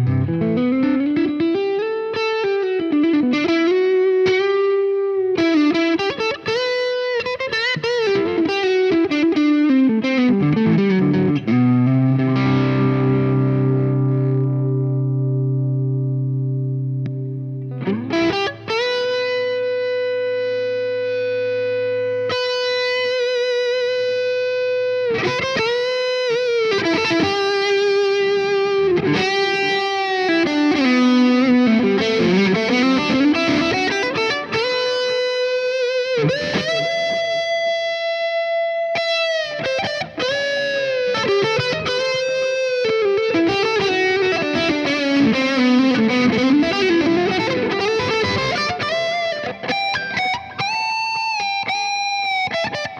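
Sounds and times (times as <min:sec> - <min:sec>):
overdriven electric guitar lead: 0:00.0 - 0:52.9.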